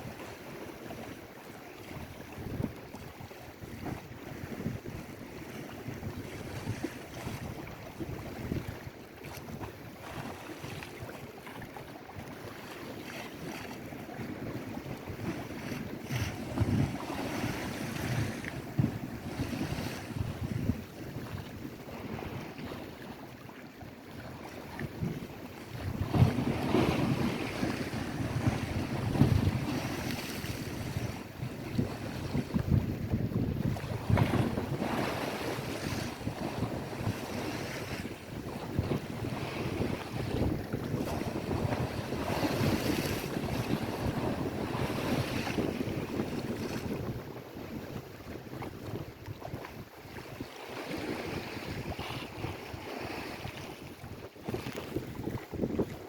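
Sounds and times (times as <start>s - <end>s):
waves washing on shore: 0.0s - 56.0s
wind buffeting microphone: 1.8s - 23.2s, 24.0s - 56.0s.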